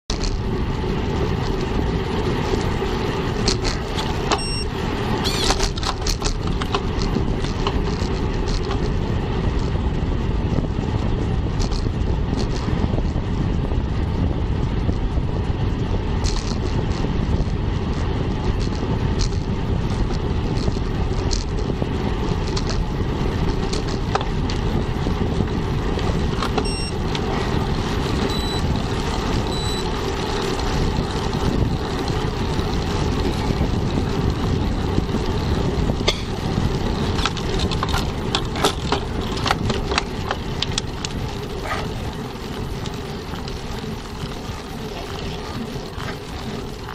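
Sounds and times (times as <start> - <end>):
bike tyres on asphalt: 0.0 - 46.9
wind rush on microphone: 0.0 - 46.9.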